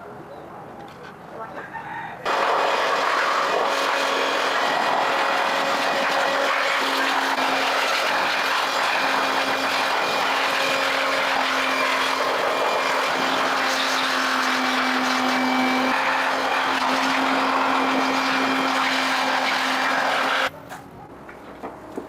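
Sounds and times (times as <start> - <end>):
motor running with hiss: 2.3 - 20.5.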